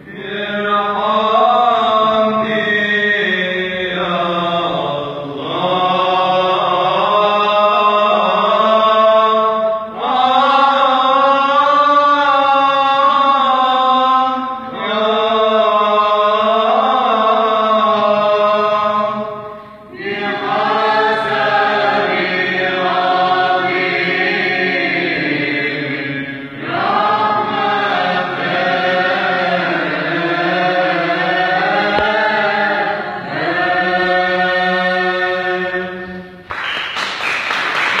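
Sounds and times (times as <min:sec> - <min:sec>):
church choir chanting: 0:00.0 - 0:38.0.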